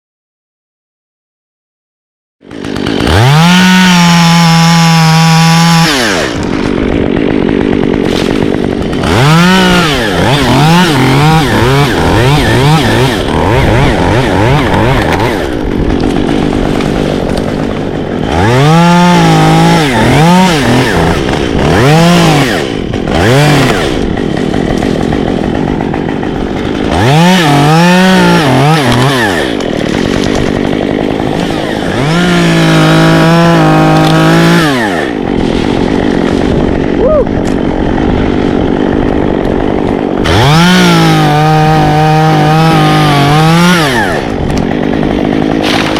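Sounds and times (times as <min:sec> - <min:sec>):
chainsaw revving: 0:02.4 - 0:45.9.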